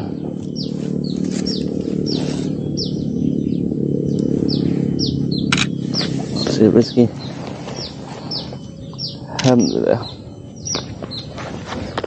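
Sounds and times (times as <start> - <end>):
bird calling in high notes: 0.0 - 12.0
steady low hum: 0.0 - 12.0.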